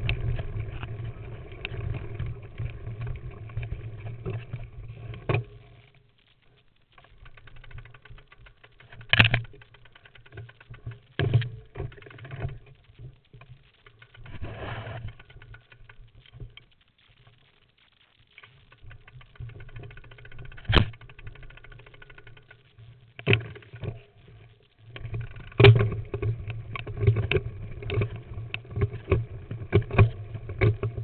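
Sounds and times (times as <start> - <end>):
mountain bike rattling on rocky trail: 0.0 - 6.2, 6.8 - 14.4, 18.2 - 31.0.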